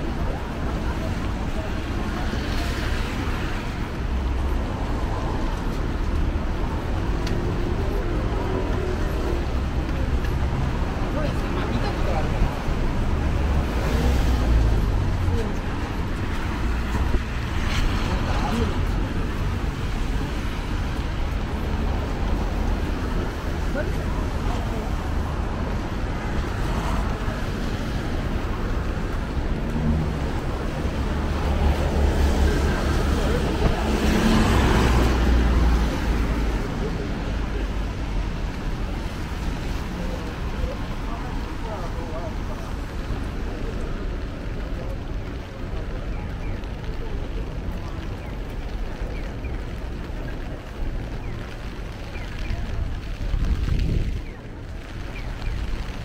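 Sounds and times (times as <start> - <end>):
low traffic rumble: 0.0 - 56.0.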